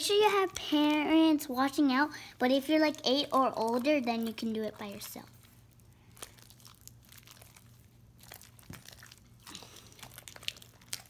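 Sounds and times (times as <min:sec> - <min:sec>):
slime squelching by hand: 0:00.0 - 0:11.0.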